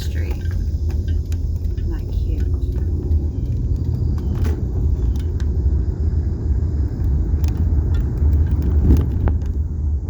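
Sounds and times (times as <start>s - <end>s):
car driving slowly: 0.0s - 10.0s.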